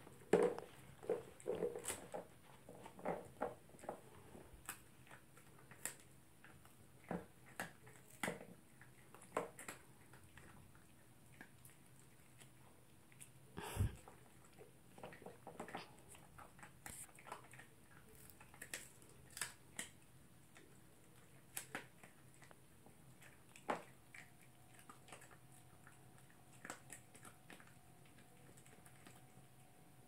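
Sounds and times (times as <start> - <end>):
dog chewing with crunches: 0.0 - 30.0.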